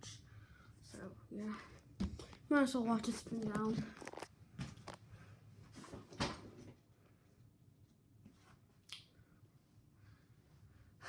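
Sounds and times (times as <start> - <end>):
ceiling fan faint hum: 0.0 - 11.0.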